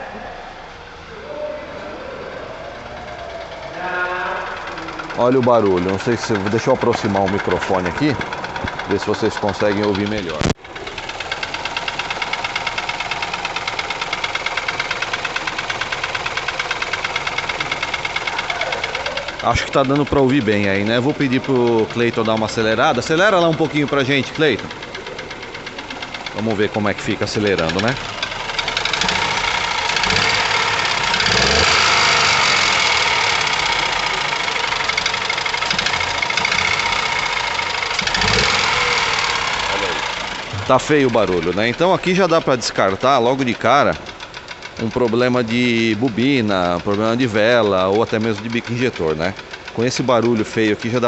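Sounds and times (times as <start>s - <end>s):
car engine idling with knocking: 0.3s - 51.0s.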